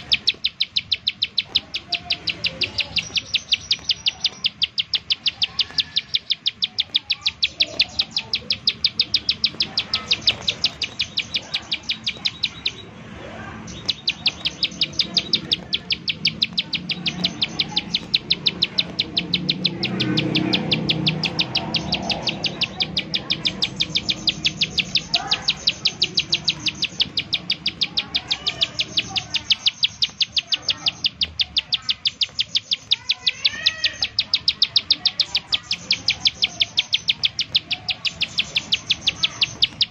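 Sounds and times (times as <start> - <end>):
bird rapid clicking call: 0.0 - 39.9
birds chirping faintly: 0.0 - 39.9.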